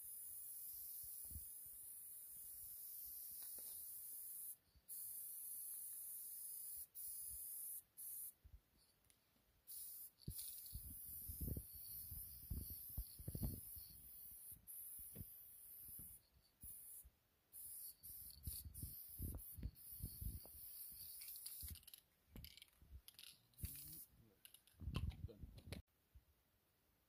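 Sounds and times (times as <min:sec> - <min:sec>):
spray paint cans hissing: 0:00.0 - 0:08.4, 0:09.7 - 0:24.7.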